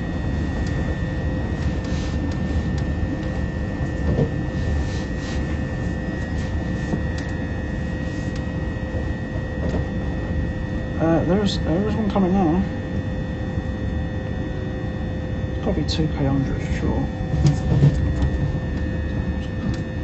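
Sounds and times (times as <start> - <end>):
high whine of traction motors: 0.0 - 20.0
low hum of traction equipment: 0.0 - 20.0
train running rumble: 0.0 - 20.0.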